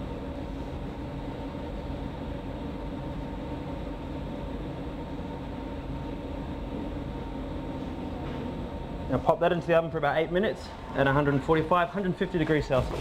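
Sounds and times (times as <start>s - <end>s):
room background hum: 0.0s - 13.0s.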